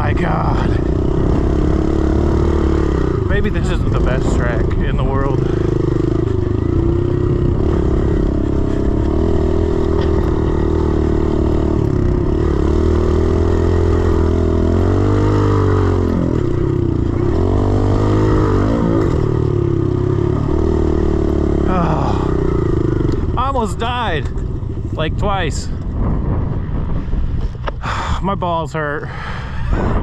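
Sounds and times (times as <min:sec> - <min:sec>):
motorbike engine revving: 0:00.0 - 0:28.0.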